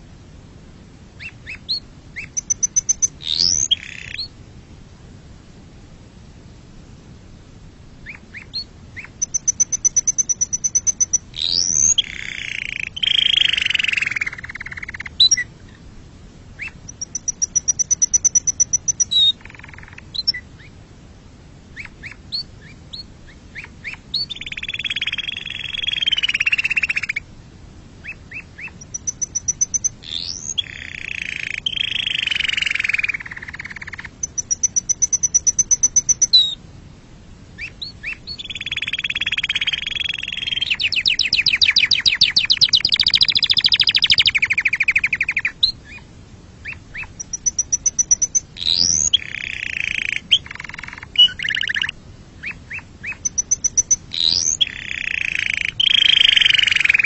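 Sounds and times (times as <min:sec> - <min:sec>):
canary singing: 0:01.2 - 0:04.3, 0:08.0 - 0:15.5, 0:16.6 - 0:20.7, 0:21.8 - 0:27.2, 0:28.0 - 0:36.6, 0:37.6 - 0:46.0, 0:46.6 - 0:57.0.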